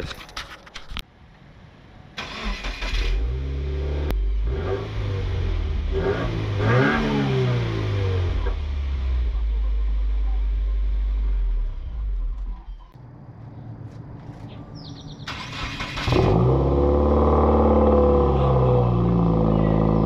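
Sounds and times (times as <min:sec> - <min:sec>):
car engine revving and idling: 0:02.3 - 0:12.9, 0:13.8 - 0:20.0.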